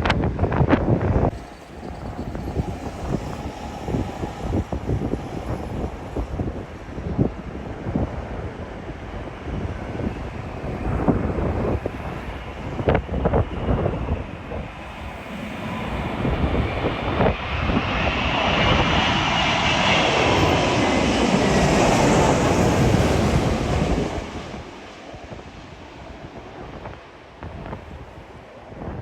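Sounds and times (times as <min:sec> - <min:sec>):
airliner engines passing: 0:00.0 - 0:29.0
wind buffeting microphone: 0:00.0 - 0:29.0.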